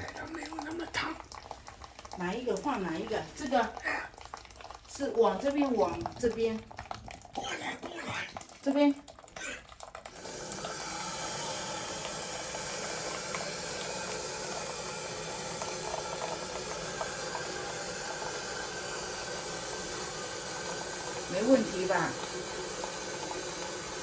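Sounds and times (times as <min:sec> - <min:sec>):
water rushing through valve: 0:00.0 - 0:24.0.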